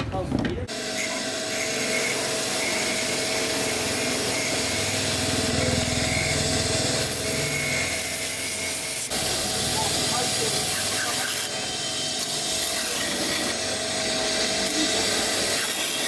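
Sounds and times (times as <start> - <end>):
machine whirring: 0.6 - 16.0.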